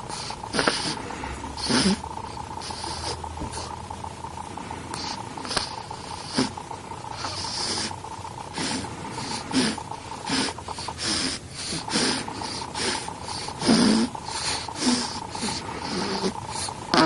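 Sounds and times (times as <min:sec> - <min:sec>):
baby snoring: 0:00.0 - 0:03.8, 0:04.9 - 0:17.0.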